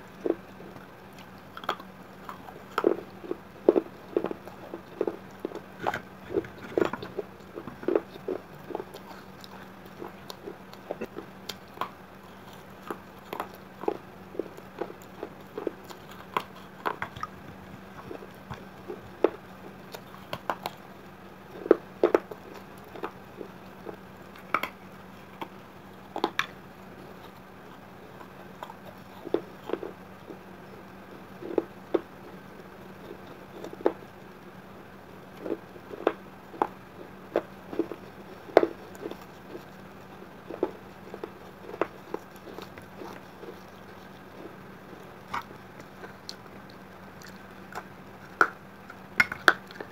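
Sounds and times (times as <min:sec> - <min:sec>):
person chewing crunchy clay: 0:00.0 - 0:49.9.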